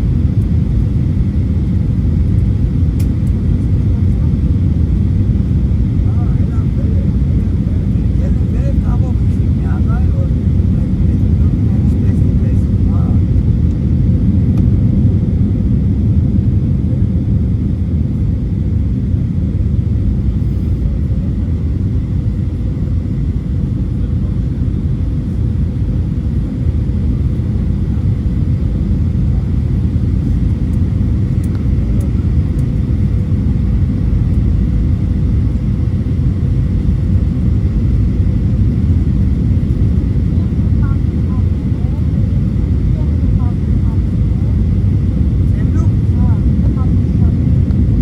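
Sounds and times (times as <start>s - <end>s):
aircraft cabin engine rumble: 0.0s - 48.0s.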